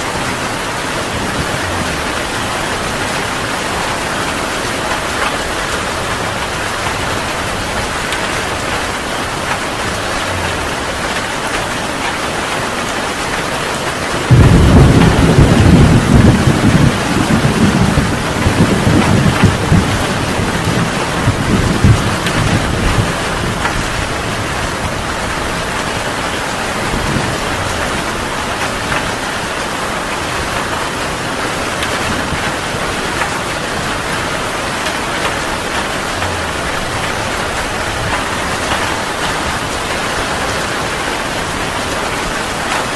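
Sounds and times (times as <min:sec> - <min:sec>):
heavy rain falling: 0:00.0 - 0:42.9
thunderclap rumbling: 0:00.0 - 0:42.9.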